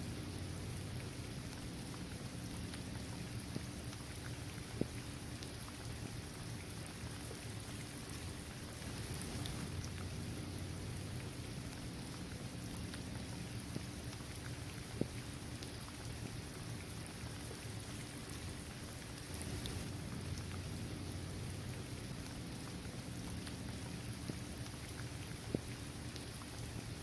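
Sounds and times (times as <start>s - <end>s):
steady rain hissing: 0.0s - 27.0s
raindrop ticks: 0.1s - 7.8s, 8.8s - 27.0s.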